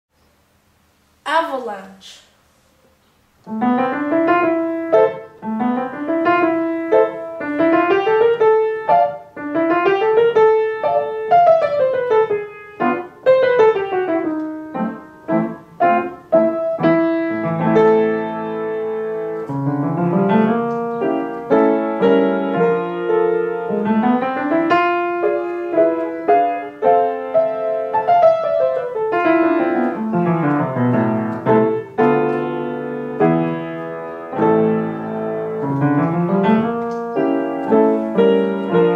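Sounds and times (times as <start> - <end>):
piano playing: 3.5 - 38.9.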